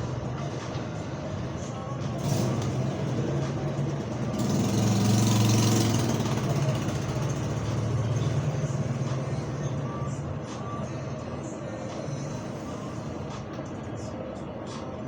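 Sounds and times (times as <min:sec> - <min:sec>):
vehicle engine idling: 0:00.0 - 0:14.5.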